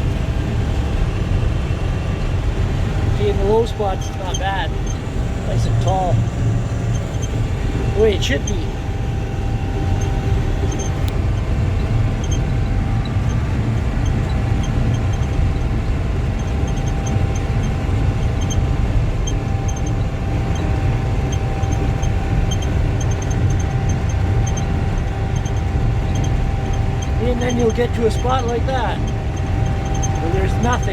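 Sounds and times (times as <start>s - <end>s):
engine and machinery drone: 0.0s - 30.9s
steady machine whine: 0.0s - 30.9s.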